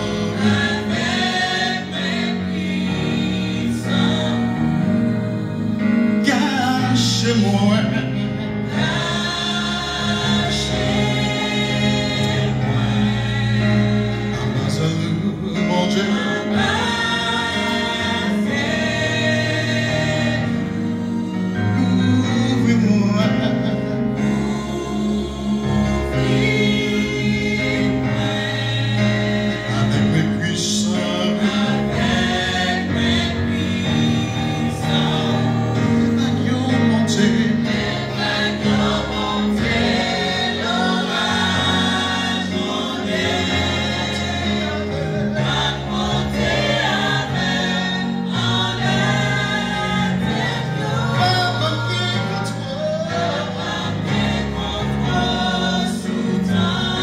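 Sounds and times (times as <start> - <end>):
choir singing worship song: 0.0 - 57.0.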